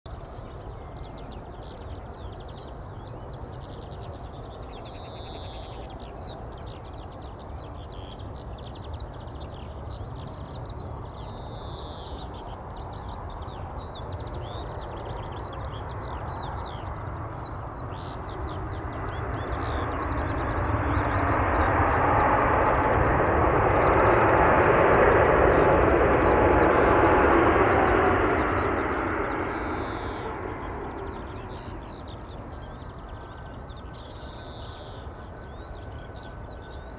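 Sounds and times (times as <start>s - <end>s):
airplane engine approaching: 0.1s - 36.9s
birds chirping: 0.1s - 36.9s
low wind rumble: 0.1s - 36.9s.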